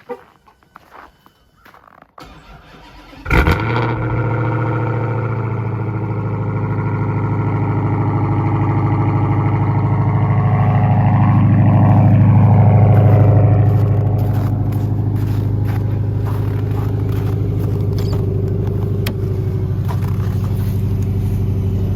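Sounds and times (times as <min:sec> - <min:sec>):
car engine cranking: 0:02.2 - 0:21.9
car engine starting and idling: 0:02.2 - 0:21.9.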